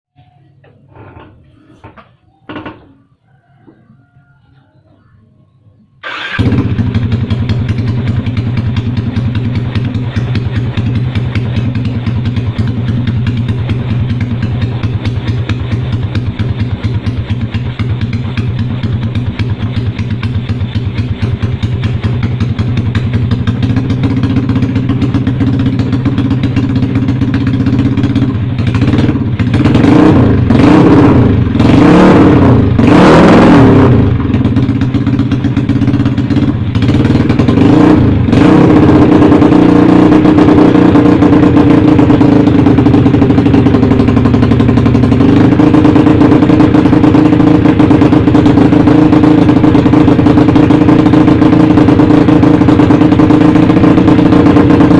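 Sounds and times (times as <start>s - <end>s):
motorcycle engine idling and revving: 6.0s - 54.9s.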